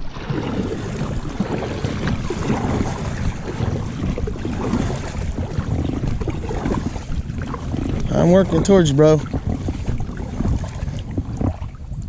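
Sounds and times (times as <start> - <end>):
water noise: 0.0 - 12.0
wind noise on microphone: 0.0 - 12.0.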